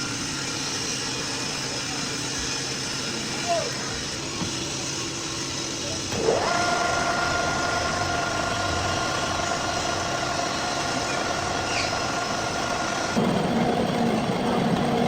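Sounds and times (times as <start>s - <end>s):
machine motor whine: 0.0s - 15.0s
workshop noise: 0.0s - 15.0s.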